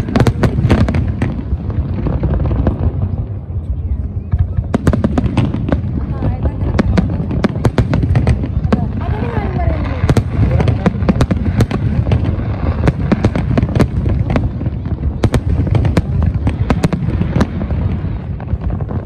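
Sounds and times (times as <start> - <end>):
deep continuous rumble: 0.0 - 19.0
fireworks bursting with bangs: 0.0 - 19.0.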